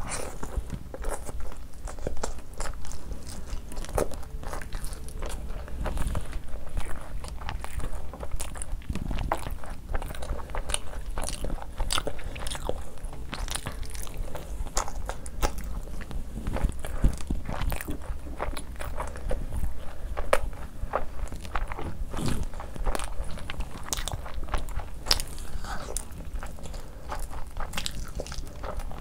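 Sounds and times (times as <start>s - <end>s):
person chewing and crunching food: 0.0s - 29.0s.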